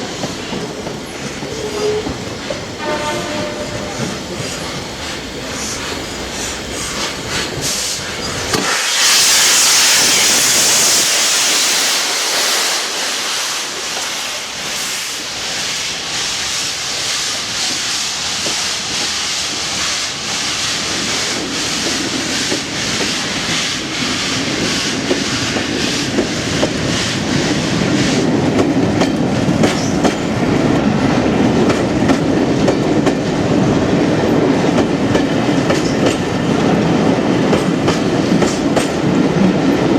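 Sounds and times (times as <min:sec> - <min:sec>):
loud steam hiss: 0:00.0 - 0:39.8
rumble of running train: 0:00.0 - 0:39.9
train wheels clicking on rail joints: 0:00.0 - 0:39.9.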